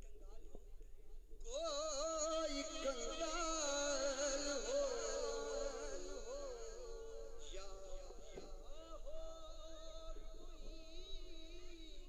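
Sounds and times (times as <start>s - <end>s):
man singing devotional poem: 1.4s - 12.0s.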